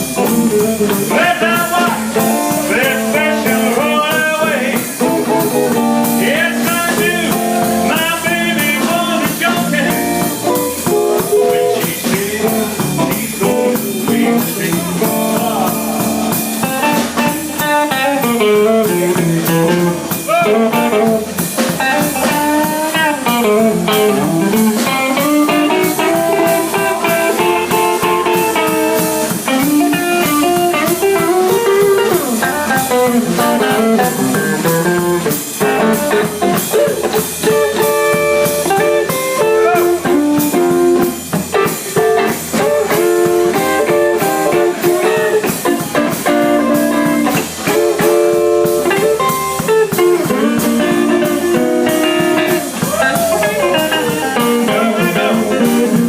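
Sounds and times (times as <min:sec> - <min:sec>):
blues band playing: 0:00.0 - 0:56.0
drum kit beat: 0:00.0 - 0:56.0
electric guitar: 0:00.0 - 0:56.0.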